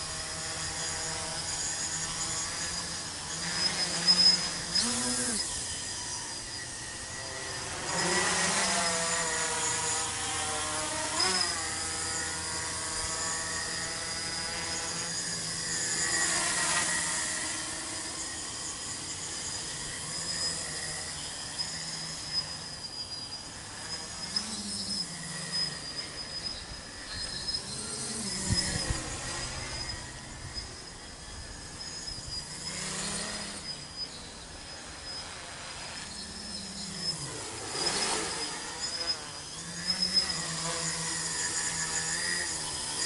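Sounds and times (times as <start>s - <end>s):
drone motors buzzing whine: 0.0s - 43.0s.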